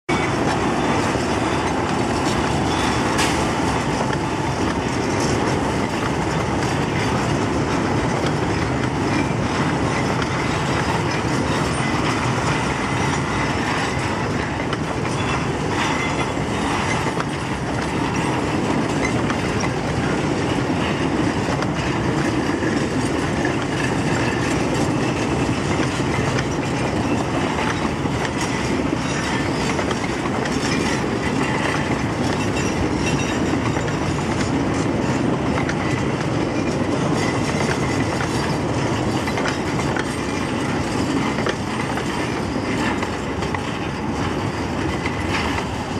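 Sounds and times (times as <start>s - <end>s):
train wheels clattering over rail joints: 0.1s - 45.9s.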